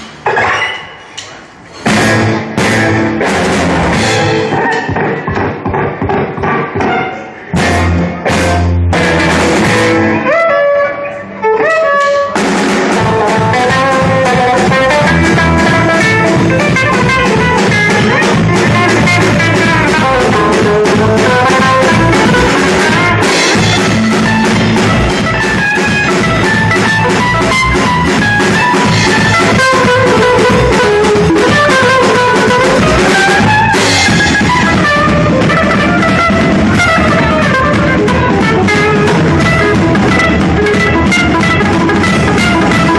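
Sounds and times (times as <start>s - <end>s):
band with drums and guitar: 1.3s - 42.9s.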